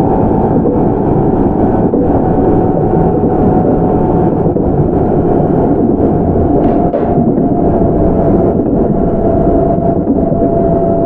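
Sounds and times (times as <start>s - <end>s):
faint steady hum: 0.0s - 11.0s
train wheels rumbling on rail: 0.0s - 11.0s.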